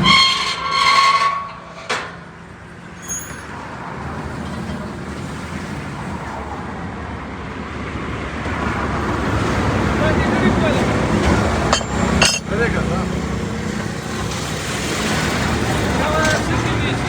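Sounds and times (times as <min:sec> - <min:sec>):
passing vehicle: 0:02.2 - 0:17.0.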